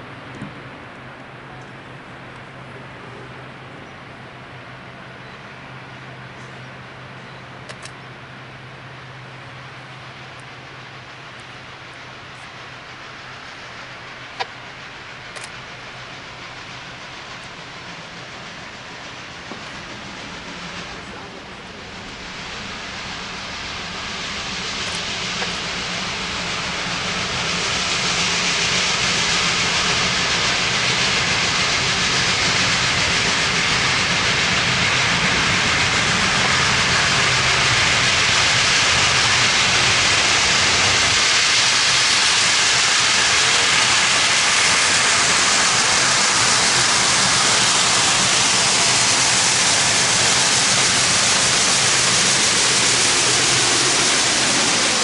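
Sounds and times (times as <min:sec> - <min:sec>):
steam locomotive hiss and rumble: 0:00.0 - 0:55.0.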